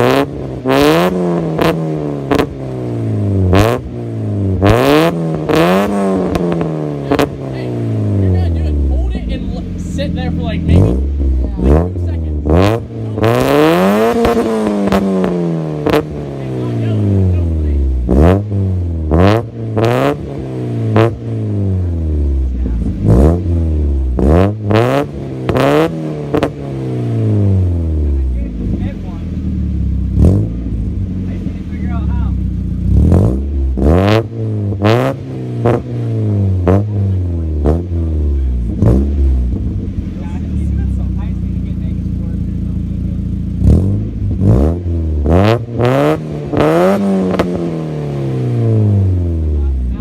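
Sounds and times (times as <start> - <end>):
car engine throttle blips: 0.0 - 50.0.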